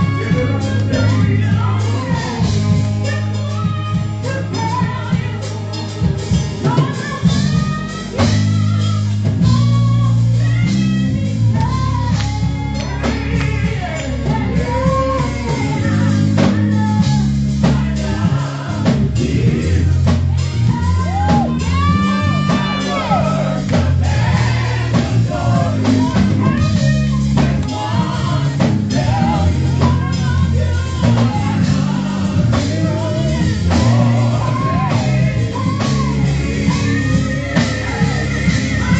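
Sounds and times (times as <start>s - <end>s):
gospel singing with band: 0.0s - 38.9s.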